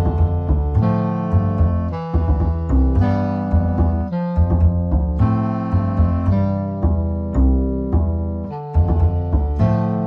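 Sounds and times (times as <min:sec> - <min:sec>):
bass line: 0:00.0 - 0:10.0
piano-like keyboard notes: 0:00.0 - 0:10.0.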